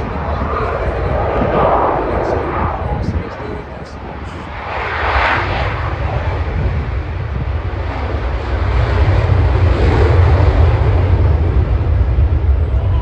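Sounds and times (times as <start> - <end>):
jet aircraft engine rumble: 0.0 - 13.0.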